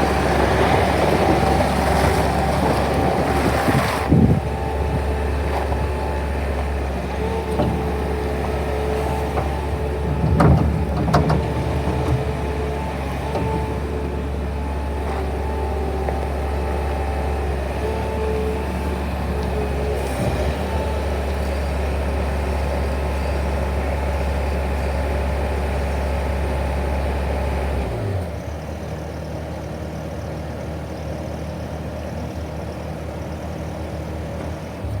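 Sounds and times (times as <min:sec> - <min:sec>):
skid steer engine rumbling: 0:00.0 - 0:35.0.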